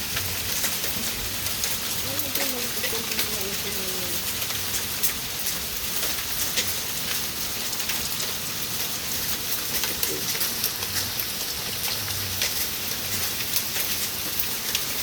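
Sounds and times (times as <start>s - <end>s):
hailstones ticking: 0.0s - 15.0s
rain hiss: 0.0s - 15.0s.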